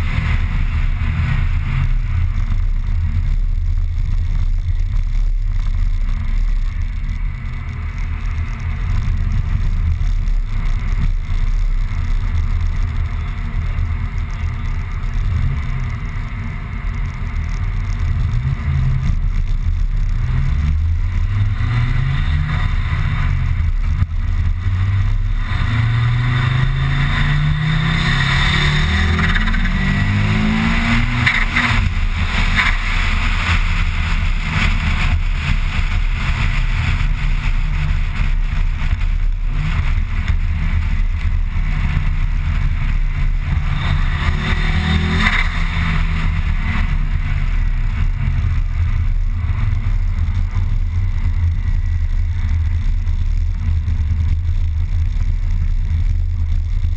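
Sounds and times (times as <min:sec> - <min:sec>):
car engine revving: 0:00.0 - 0:56.9
road and tyre noise: 0:00.0 - 0:56.9.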